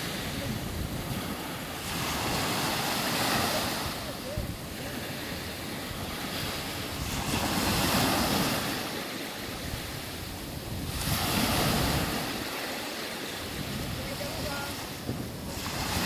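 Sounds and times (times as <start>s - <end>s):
waves washing up gravel beach: 0.0s - 16.0s
wind buffeting microphone: 0.0s - 16.0s.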